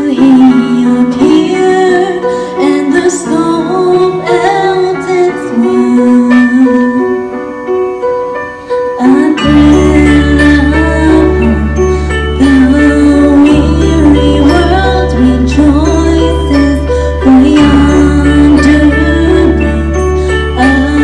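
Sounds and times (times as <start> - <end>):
woman singing into microphone: 0.0 - 7.4, 8.7 - 21.0
bass-heavy accompaniment: 0.0 - 21.0
instrumental accompaniment: 0.0 - 21.0.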